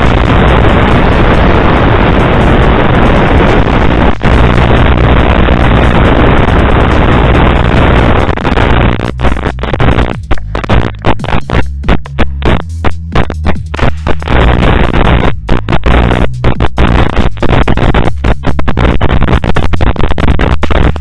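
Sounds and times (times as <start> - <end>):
electronic music with choppy beat: 0.0 - 21.0
loud steady rushing noise: 0.0 - 21.0.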